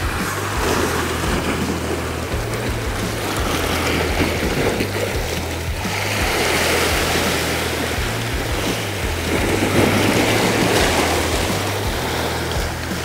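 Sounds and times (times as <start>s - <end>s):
background music with bass: 0.0s - 13.0s
surf breaking on rocks: 0.0s - 13.0s.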